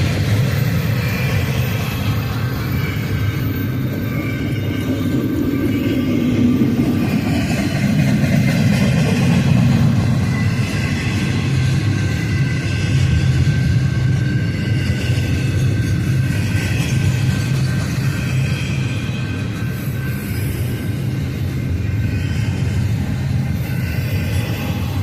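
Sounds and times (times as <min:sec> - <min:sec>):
freight train wheels rumbling on rail: 0:00.0 - 0:25.0.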